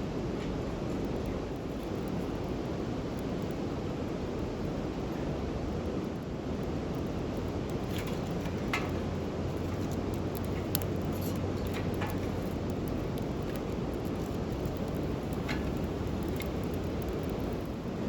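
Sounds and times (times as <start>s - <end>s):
campfire crackling: 0.2s - 18.0s.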